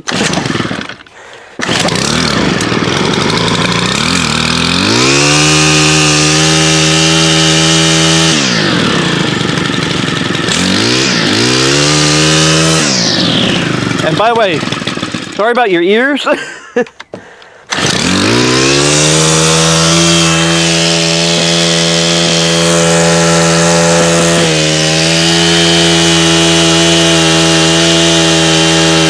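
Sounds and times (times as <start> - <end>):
trimmer engine starting and revving: 0.0 - 16.2, 17.1 - 29.0.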